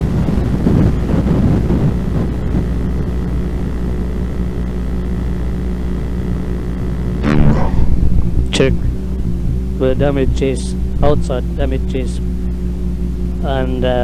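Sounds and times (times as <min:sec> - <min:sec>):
electrical hum and low rumble: 0:00.0 - 0:14.0.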